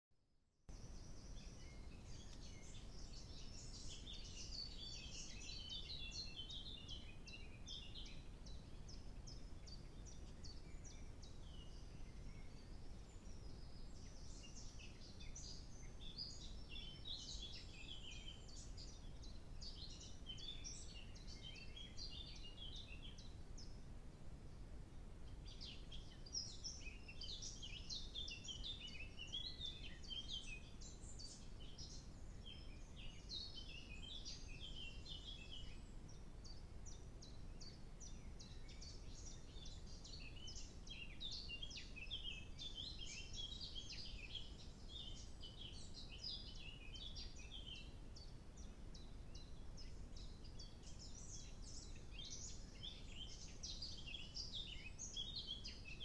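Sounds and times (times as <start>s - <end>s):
low background hiss: 0.7s - 56.0s
songbirds chirping and trilling: 0.7s - 56.0s.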